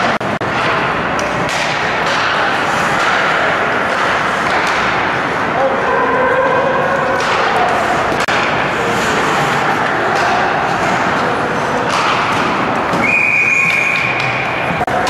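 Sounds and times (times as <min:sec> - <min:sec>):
ice hockey game noise: 0:00.0 - 0:15.0.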